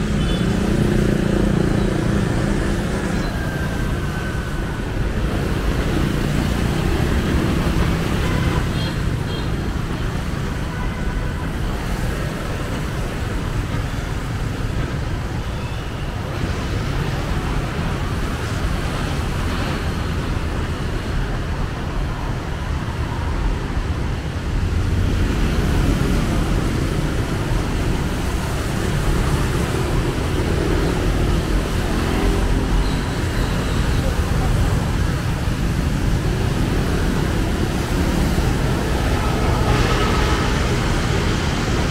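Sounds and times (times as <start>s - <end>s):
street traffic rumble: 0.0s - 41.9s.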